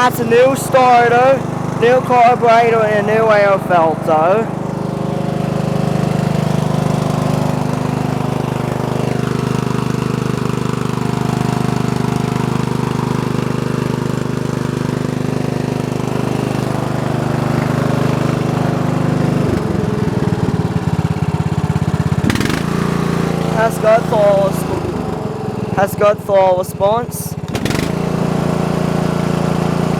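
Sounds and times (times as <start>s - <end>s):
small engine running steadily: 0.0s - 29.9s.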